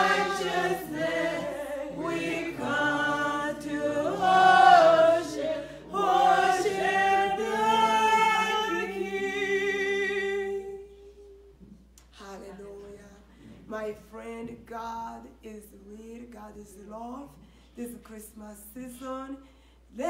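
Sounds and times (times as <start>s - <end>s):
woman singing worship song: 0.0s - 11.5s, 12.1s - 20.0s.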